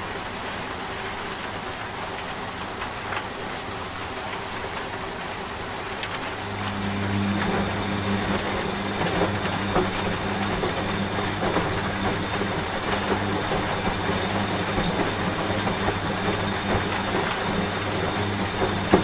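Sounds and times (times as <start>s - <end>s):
rain with drop ticks: 0.0s - 19.0s
washing machine humming: 0.0s - 19.0s.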